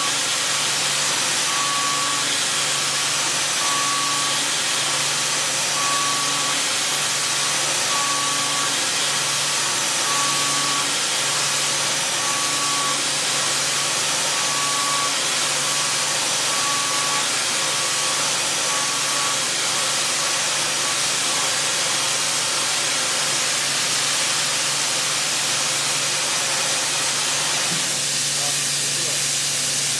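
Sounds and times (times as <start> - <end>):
milling machine hissing: 0.0 - 29.9.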